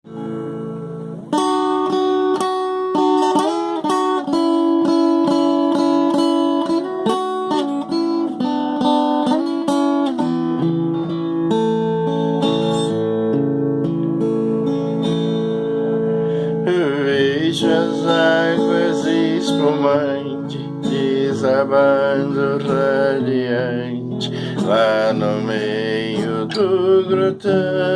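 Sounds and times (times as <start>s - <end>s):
guitar picking a melody: 0.0s - 27.9s.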